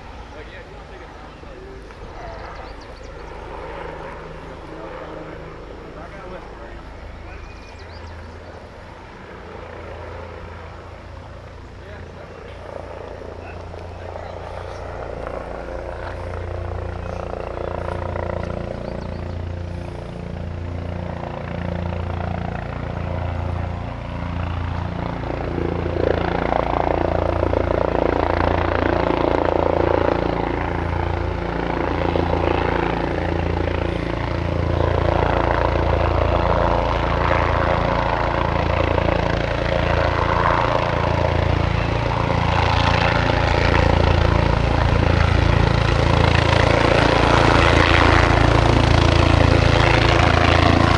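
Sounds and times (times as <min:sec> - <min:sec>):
helicopter rotor beating: 0:00.0 - 0:50.9.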